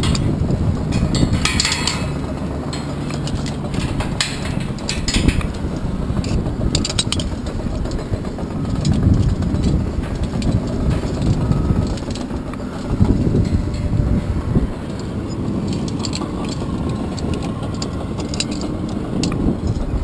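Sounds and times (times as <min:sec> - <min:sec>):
wind rumbling on microphone: 0:00.0 - 0:20.0
metallic clinks of climbing hardware: 0:00.9 - 0:19.9.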